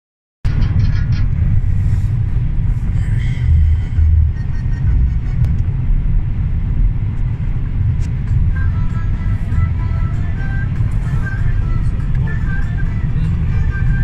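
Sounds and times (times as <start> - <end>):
car cabin road and engine rumble: 0.4 - 14.0.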